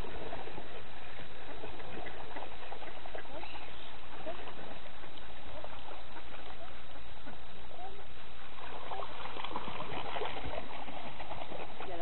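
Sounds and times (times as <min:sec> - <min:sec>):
waterbirds calling: 0:00.0 - 0:12.0.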